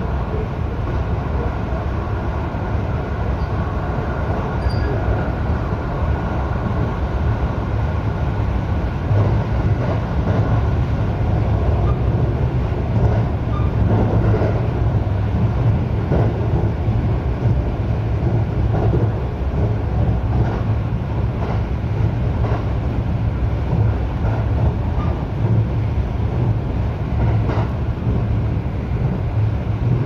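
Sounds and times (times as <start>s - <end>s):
train rumble from on board: 0.0s - 30.0s.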